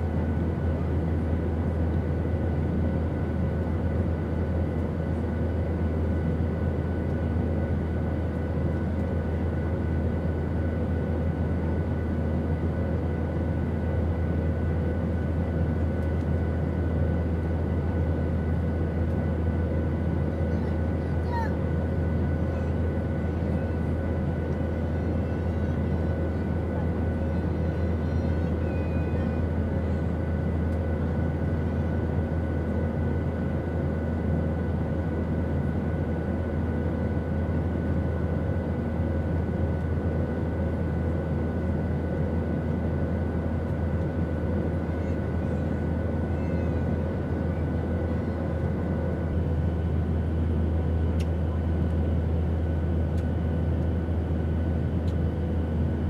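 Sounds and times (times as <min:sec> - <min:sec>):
airliner engine rumble: 0:00.0 - 0:56.0.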